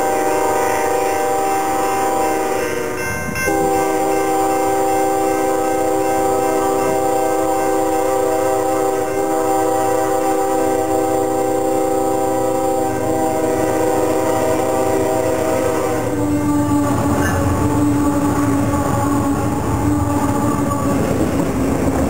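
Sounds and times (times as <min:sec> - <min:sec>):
locomotive air horn blast: 0:00.0 - 0:22.0
train wheels rumbling on rails: 0:00.0 - 0:22.0.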